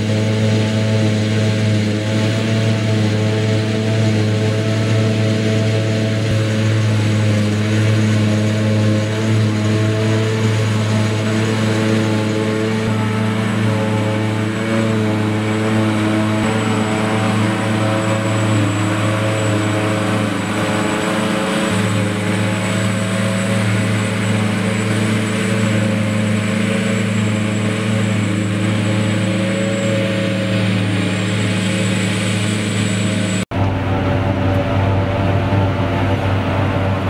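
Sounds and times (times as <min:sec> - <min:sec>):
harvester engine drone: 0:00.0 - 0:37.0
thin high whine: 0:00.0 - 0:37.0.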